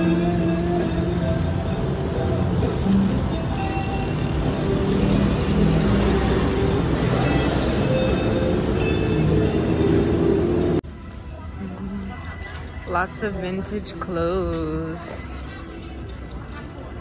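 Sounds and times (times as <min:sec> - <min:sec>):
dense road traffic noise: 0:00.0 - 0:17.0.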